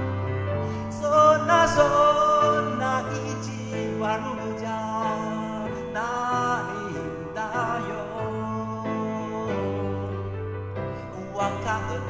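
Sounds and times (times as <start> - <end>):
piano accompaniment: 0.0 - 12.0
man singing: 0.5 - 12.0.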